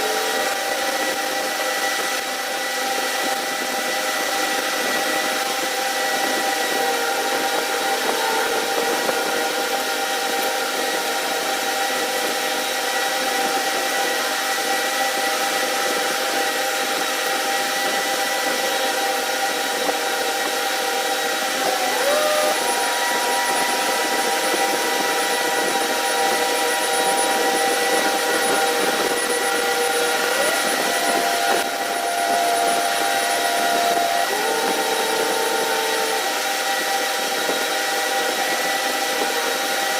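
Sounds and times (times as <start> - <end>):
machine running with whine: 0.0 - 39.9.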